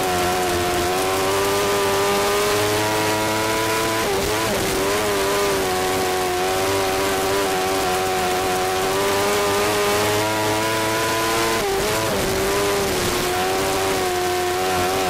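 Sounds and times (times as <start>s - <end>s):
high-revving engine: 0.0s - 15.0s.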